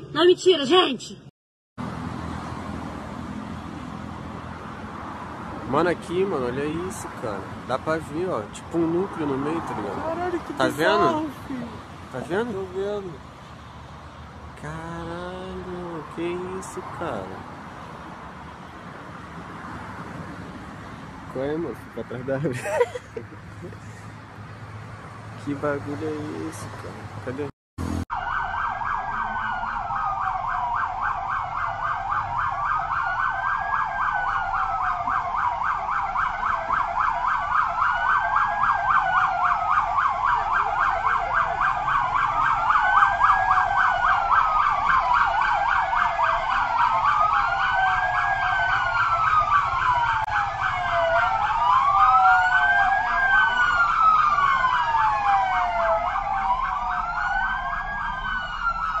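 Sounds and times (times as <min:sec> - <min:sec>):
sirens wailing: 0:03.6 - 0:13.2, 0:14.6 - 0:23.8, 0:27.8 - 0:59.0.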